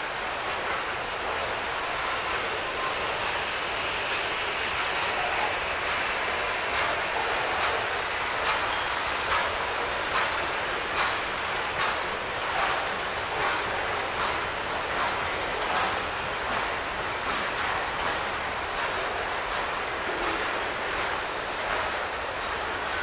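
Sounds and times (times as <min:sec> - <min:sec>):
steel wheels rolling on rail: 0:00.0 - 0:23.0.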